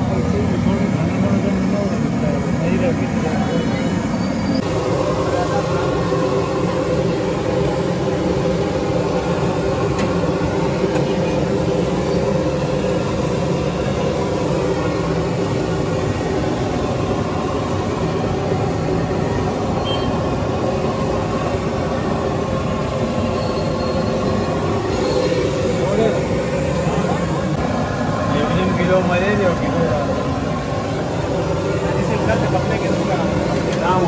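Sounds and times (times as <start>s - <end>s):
gas burner rushing: 0.0s - 34.0s.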